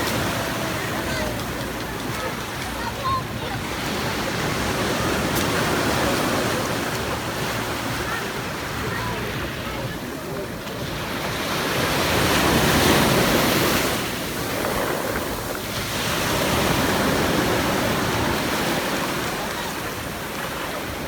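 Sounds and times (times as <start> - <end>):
waves breaking on shore: 0.0 - 21.0.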